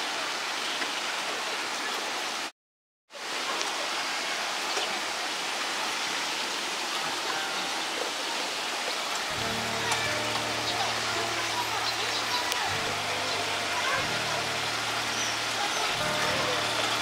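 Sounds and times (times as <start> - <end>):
steady outdoor hiss: 3.2 - 17.0.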